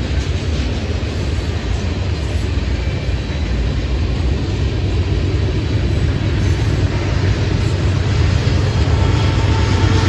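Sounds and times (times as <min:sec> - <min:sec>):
diesel locomotive approaching: 0:00.0 - 0:10.0
freight train rumbling by: 0:00.0 - 0:10.0.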